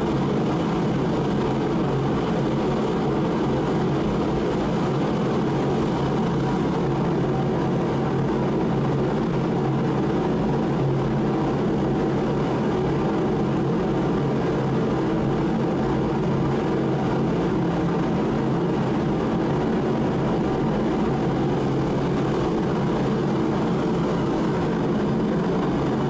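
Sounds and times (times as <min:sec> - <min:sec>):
forced-air heater running: 0:00.0 - 0:26.0.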